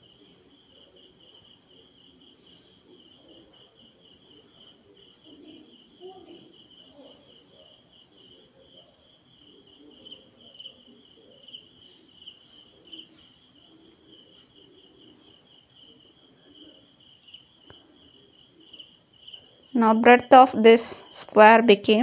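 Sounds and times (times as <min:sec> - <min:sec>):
faint insects chirping: 0:00.0 - 0:22.0.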